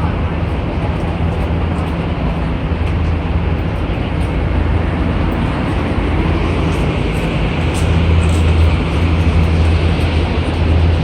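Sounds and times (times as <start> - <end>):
electric train running: 0.0 - 11.0.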